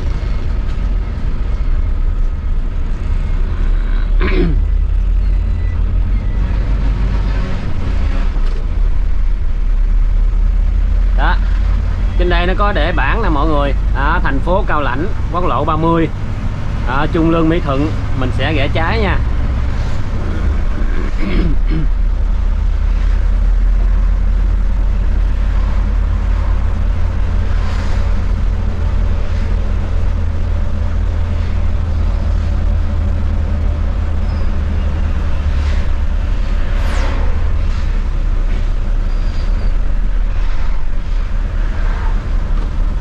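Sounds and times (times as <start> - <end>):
coach engine drone: 0.0 - 43.0
road noise rumble: 0.0 - 43.0.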